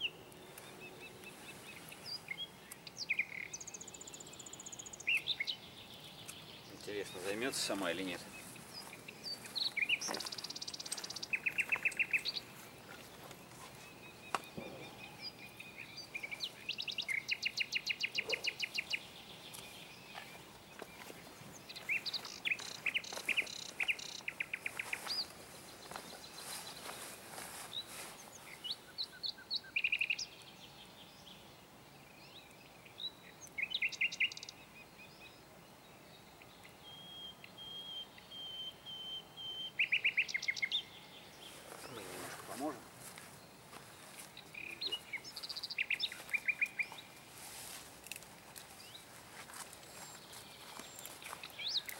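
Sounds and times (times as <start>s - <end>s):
songbirds singing: 0.0s - 51.9s.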